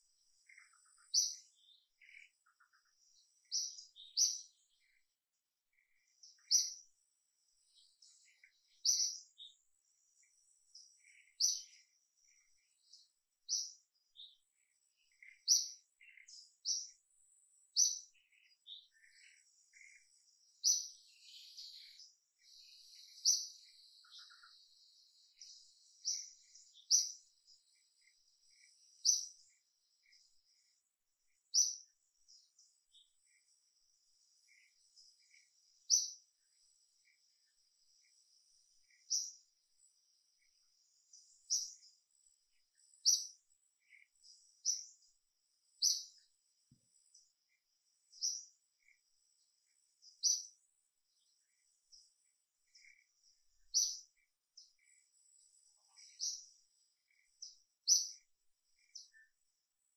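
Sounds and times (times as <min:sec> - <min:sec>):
birds chirping: 0:00.0 - 0:59.9
soft bird twitters: 0:00.0 - 0:59.9.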